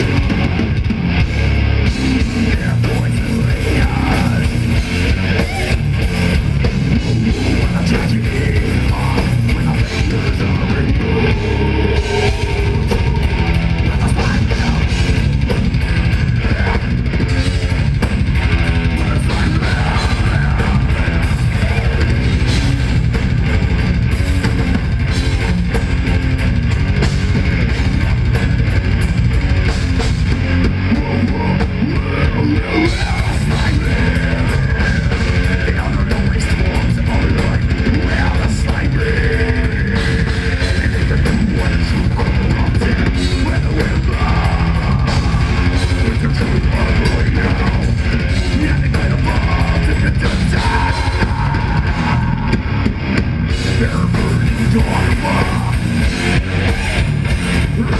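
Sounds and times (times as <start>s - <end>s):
bass guitar: 0.0s - 57.9s
distorted electric guitars: 0.0s - 57.9s
drum kit: 0.0s - 57.9s.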